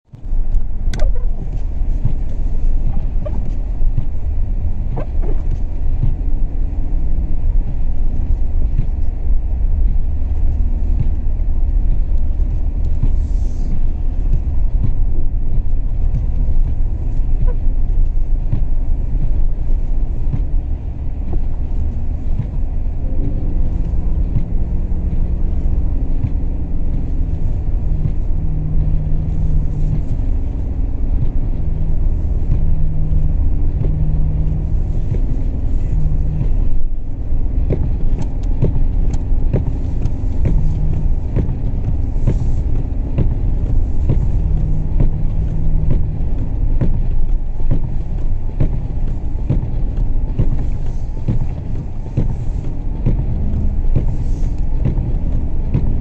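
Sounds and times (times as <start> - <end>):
steady low hum: 0.1 - 56.0
wind buffeting microphone: 0.1 - 56.0.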